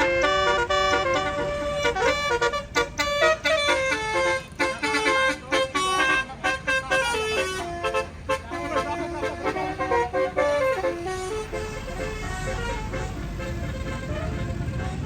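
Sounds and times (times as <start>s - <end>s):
bus horn playing a tune: 0.0s - 15.0s.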